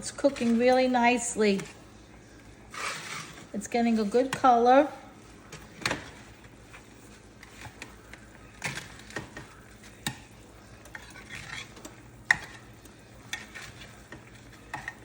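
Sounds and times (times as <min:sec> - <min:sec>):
chicken sizzling: 0:00.0 - 0:15.0.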